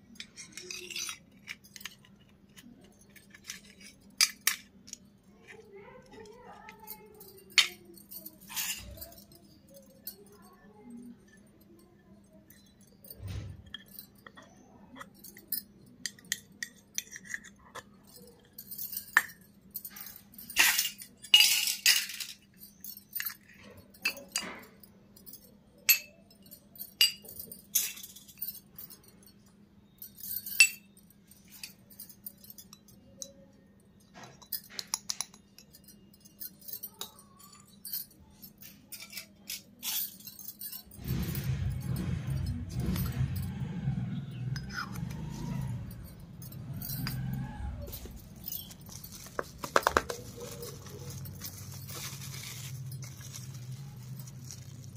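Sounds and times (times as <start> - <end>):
metal bowls clinking: 0.1 - 54.9.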